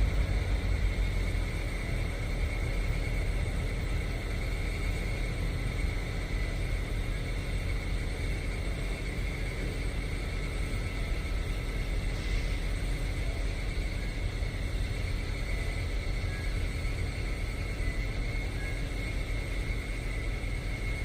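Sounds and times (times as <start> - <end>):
high-pitched whine: 0.0 - 21.0
low machinery rumble: 0.0 - 21.0.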